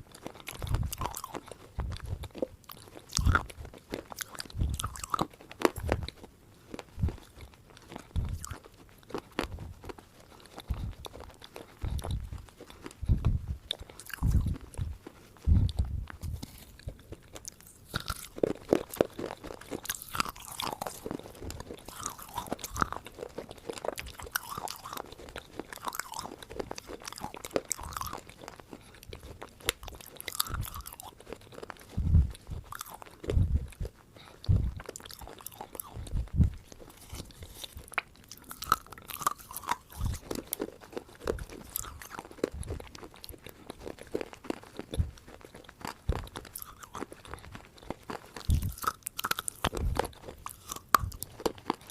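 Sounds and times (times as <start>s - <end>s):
person chewing something crunchy: 0.0s - 51.9s.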